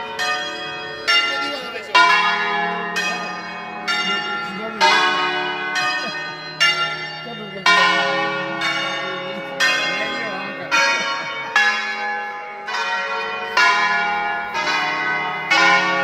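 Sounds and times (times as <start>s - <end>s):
church bell strokes: 0.0s - 16.0s.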